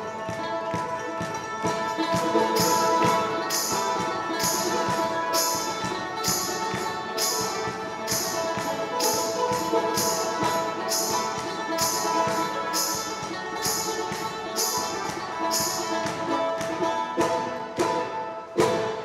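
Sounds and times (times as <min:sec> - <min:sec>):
banjo played fast: 0:00.0 - 0:19.0
jingling percussion hits: 0:00.0 - 0:19.0.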